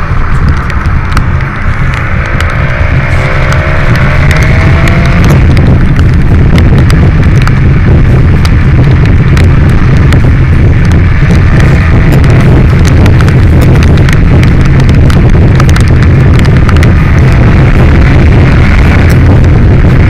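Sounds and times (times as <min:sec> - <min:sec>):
motorcycle engine accelerating: 0:00.0 - 0:20.0
rain ticking on microphone: 0:00.0 - 0:20.0
wind rush on microphone: 0:00.0 - 0:20.0.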